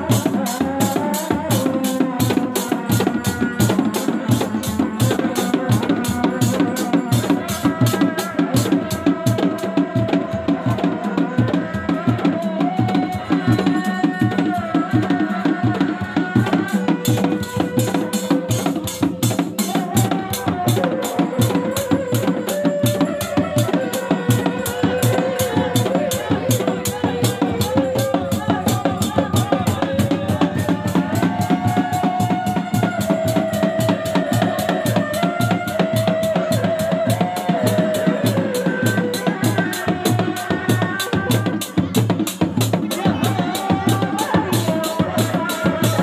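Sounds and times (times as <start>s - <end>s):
drum ensemble beating: 0.0s - 46.0s.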